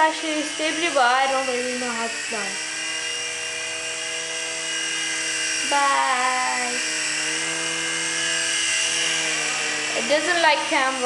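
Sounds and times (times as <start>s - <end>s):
toy helicopter rotors whining: 0.0s - 11.0s.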